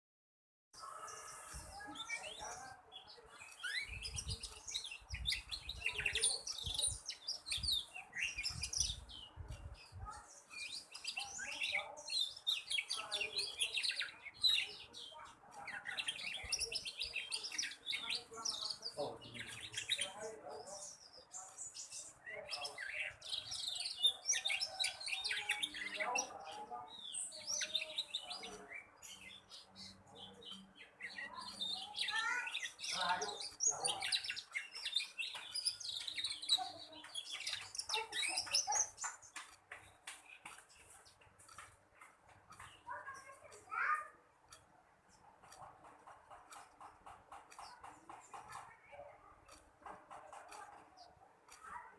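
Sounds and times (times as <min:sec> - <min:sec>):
canary singing chirps: 0:00.8 - 0:51.9.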